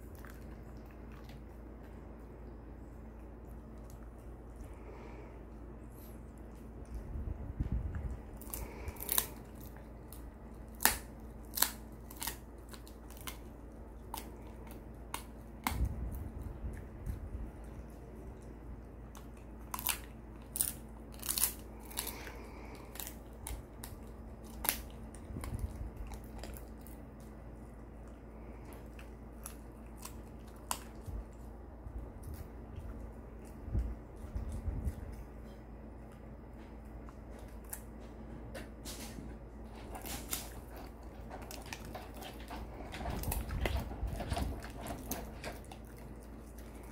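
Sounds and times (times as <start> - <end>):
dog crunching chew treat: 0.0 - 5.3, 5.9 - 46.9.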